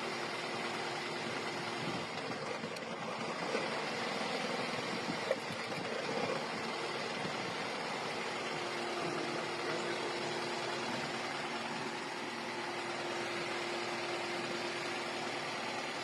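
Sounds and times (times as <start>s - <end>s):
car engine idling with misfire: 0.0s - 16.0s.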